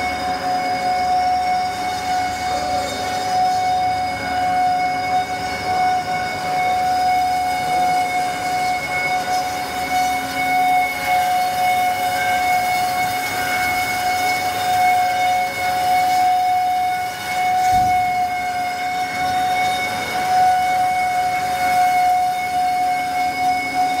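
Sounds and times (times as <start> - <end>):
band saw whine: 0.0 - 24.0
high steady tone: 0.0 - 24.0.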